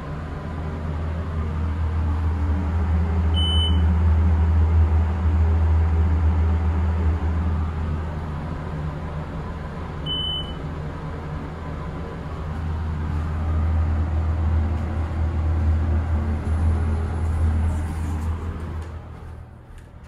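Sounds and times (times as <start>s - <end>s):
elevator fan hum: 0.0s - 20.0s.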